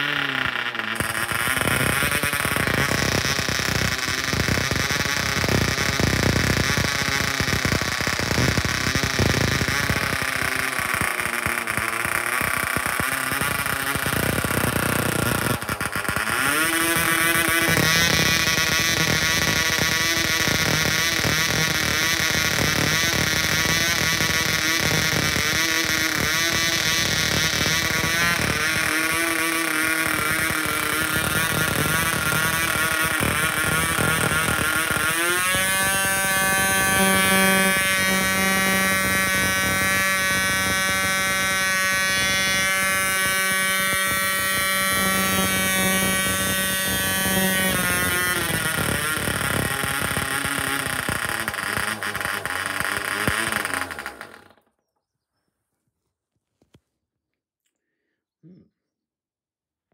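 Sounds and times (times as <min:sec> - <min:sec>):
model aero engine running: 0:00.0 - 0:54.6.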